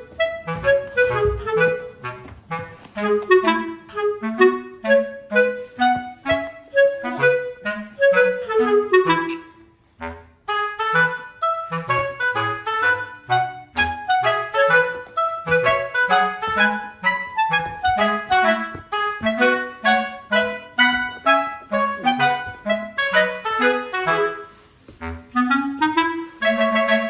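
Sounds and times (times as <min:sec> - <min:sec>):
bouncy clarinet-like tune: 0:00.0 - 0:27.0.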